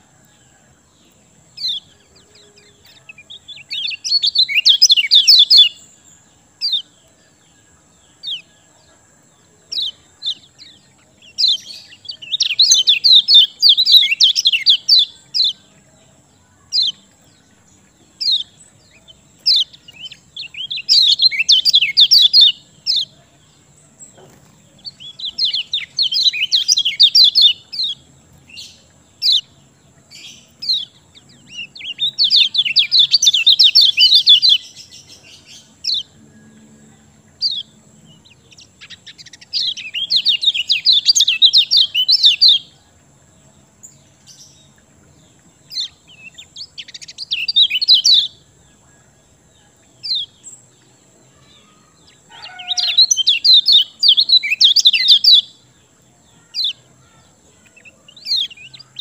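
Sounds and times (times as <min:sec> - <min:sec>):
bird high chattering song: 0:01.0 - 0:59.0.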